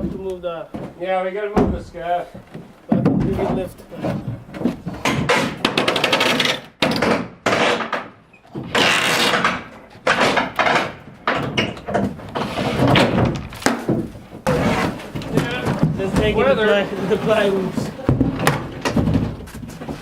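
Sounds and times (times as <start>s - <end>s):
building materials knocking and banging: 0.0s - 20.0s.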